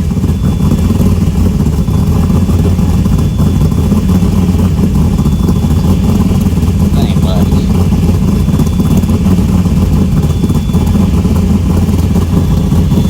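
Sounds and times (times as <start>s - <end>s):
car engine idling with choppy lope: 0.0s - 13.0s.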